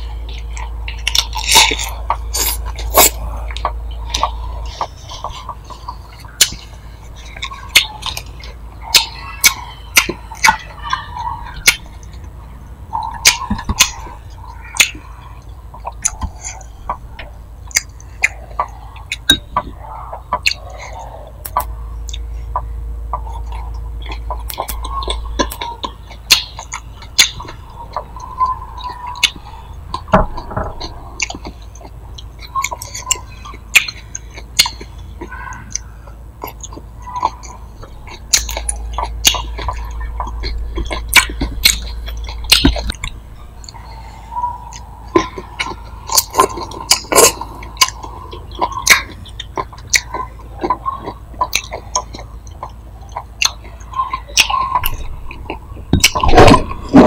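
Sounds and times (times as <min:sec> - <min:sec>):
chewing with mouth clicks: 0:00.0 - 0:57.0
low hum: 0:00.0 - 0:57.0.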